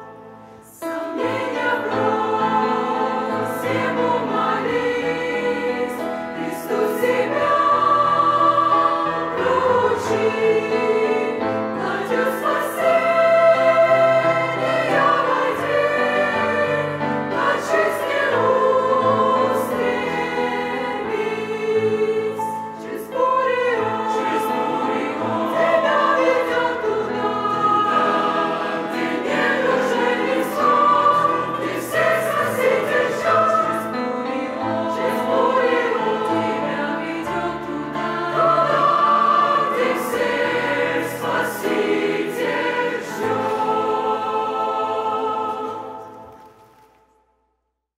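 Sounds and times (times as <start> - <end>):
church choir singing a hymn: 0.0 - 47.0.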